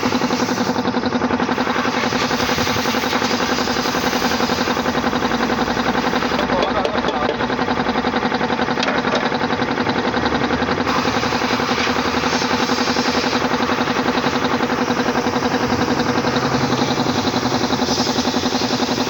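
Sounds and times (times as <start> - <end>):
piston air compressor chugging: 0.0 - 19.0.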